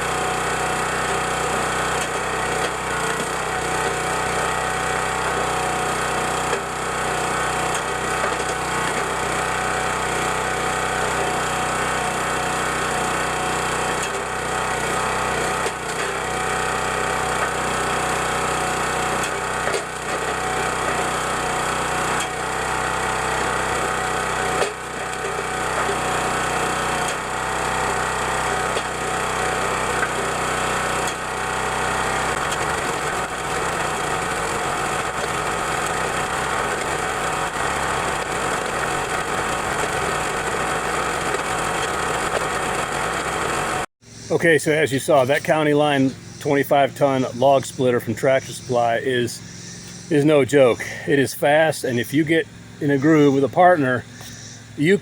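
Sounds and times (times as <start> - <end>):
log splitter engine running: 0.0 - 55.0.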